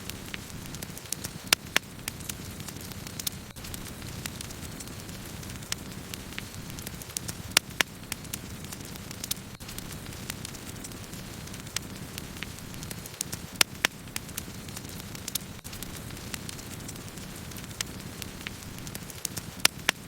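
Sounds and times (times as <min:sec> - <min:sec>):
burning wood crackling and popping: 0:00.0 - 0:20.0
campfire flames rumbling: 0:00.0 - 0:20.0.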